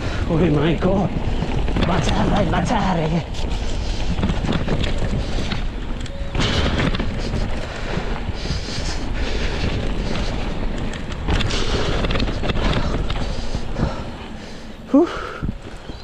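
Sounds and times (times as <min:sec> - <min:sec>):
bike rattling and knocking: 0:00.0 - 0:16.0
wind buffeting microphone: 0:00.0 - 0:16.0.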